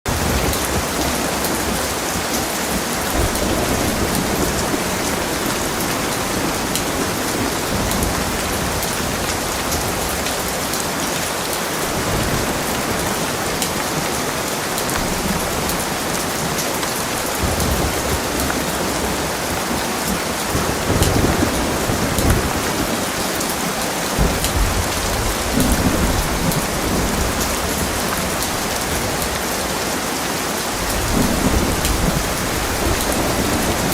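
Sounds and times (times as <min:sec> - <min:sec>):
heavy rain falling: 0:00.0 - 0:33.9
thunder rumbling: 0:00.1 - 0:10.9, 0:11.7 - 0:23.4, 0:24.2 - 0:29.9, 0:30.7 - 0:33.9.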